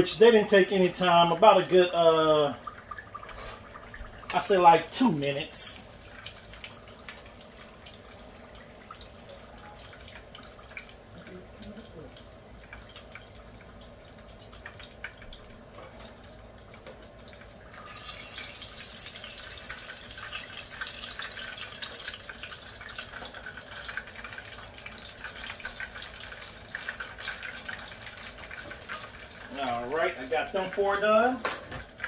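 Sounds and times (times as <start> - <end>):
oil sizzling and crackling: 0.0 - 32.0.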